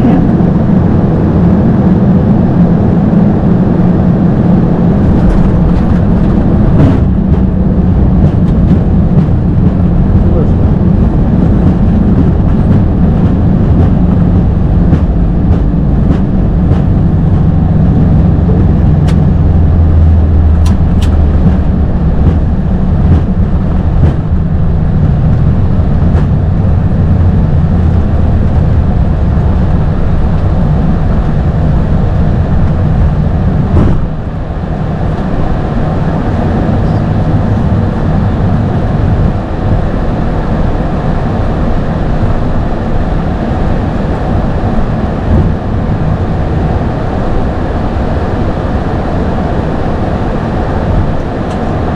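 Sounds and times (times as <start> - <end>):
aircraft engine rumble: 0.0 - 51.9.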